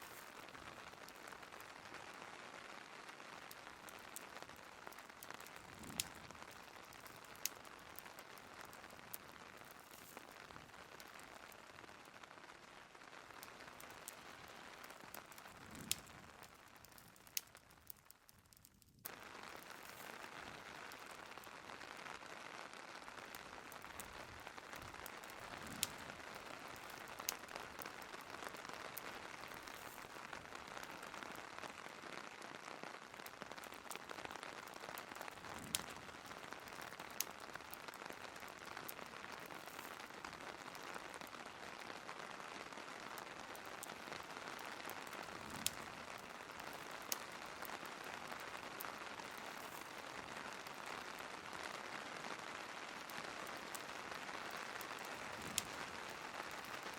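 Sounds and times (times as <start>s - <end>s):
steady rain falling: 0.0s - 56.9s
wood fire crackling pops: 0.0s - 56.9s.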